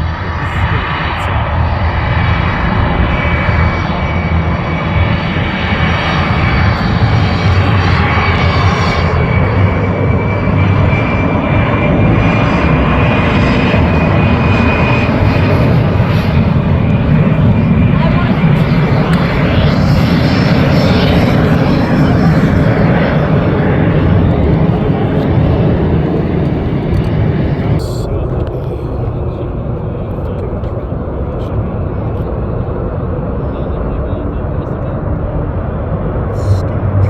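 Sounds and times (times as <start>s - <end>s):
high whine: 0.0s - 37.0s
jet engine noise: 0.0s - 37.0s.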